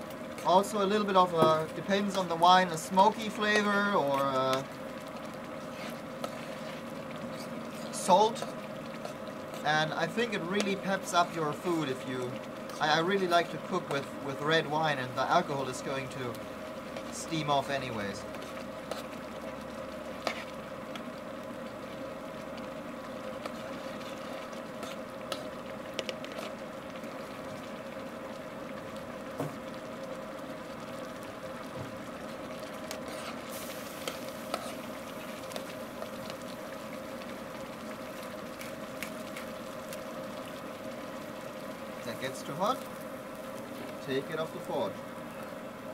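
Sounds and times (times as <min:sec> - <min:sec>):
sauce bubbling and sizzling: 0:00.0 - 0:45.9
steady hum: 0:00.0 - 0:45.9.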